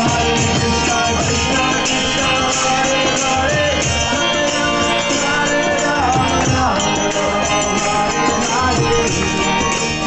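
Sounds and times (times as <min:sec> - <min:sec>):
hand cymbals jingling: 0:00.0 - 0:10.0
hand drum beats: 0:00.0 - 0:10.0
harmonium chords: 0:00.0 - 0:10.0
person singing: 0:00.0 - 0:10.0.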